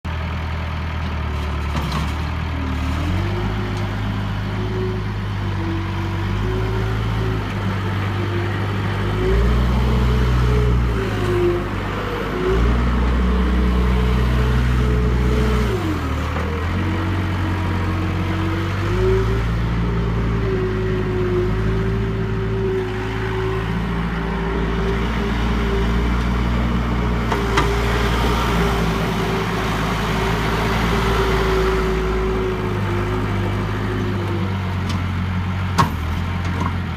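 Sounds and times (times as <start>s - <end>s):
skid steer diesel engine running: 0.0s - 36.9s
whining tone: 3.1s - 35.0s.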